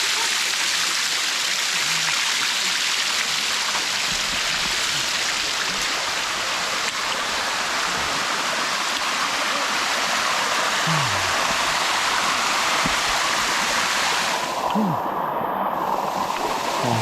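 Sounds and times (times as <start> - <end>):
waterfall splashing down rock: 0.0 - 15.0.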